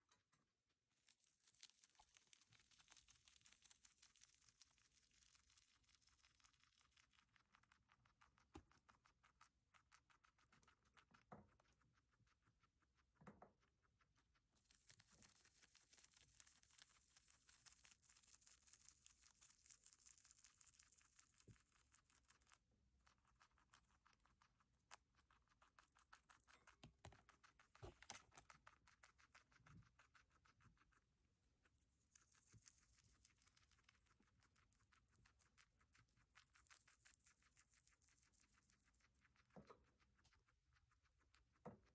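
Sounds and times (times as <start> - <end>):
guinea pig chewing leaves: 0.0 - 41.9.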